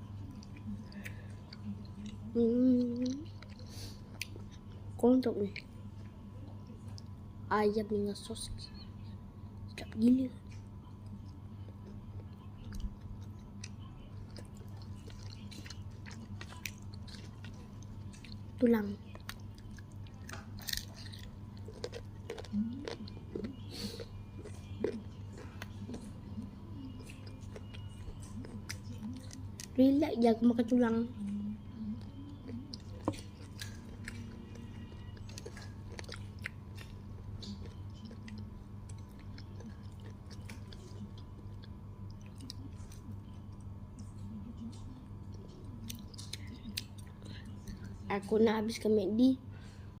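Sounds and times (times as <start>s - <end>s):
chewing and crunching food: 0.0s - 7.2s, 9.6s - 48.9s.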